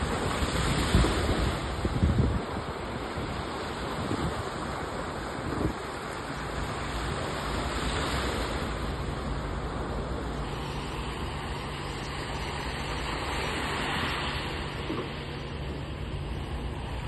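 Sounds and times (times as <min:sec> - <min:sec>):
waves washing up a beach: 0:00.0 - 0:17.0.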